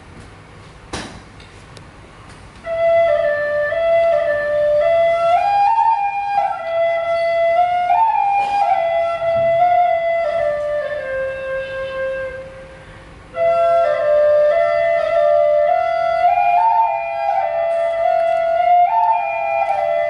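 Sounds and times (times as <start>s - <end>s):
wind pipes playing slow melody: 2.6s - 20.0s.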